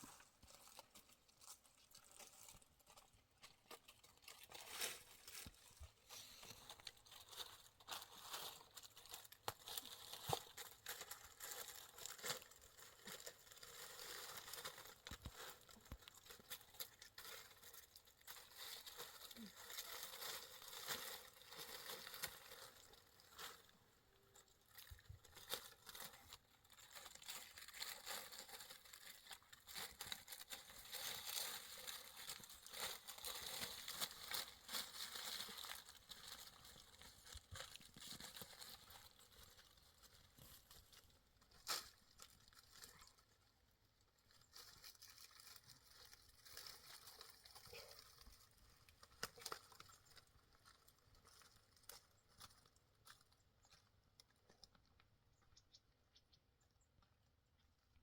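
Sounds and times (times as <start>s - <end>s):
faint rustling and crinkling: 0.0s - 55.9s.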